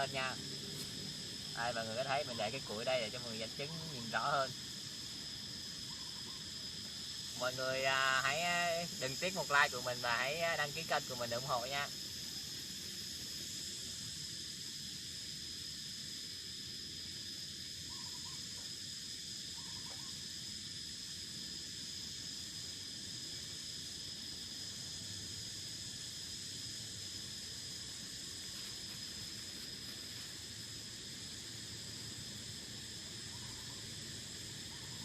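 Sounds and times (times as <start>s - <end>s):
faint hiss: 0.0s - 35.0s
high-pitched insect drone: 0.0s - 35.0s.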